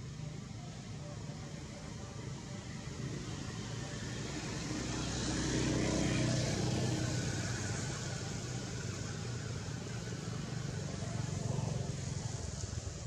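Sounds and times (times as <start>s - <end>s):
engine passing by: 1.9s - 13.0s.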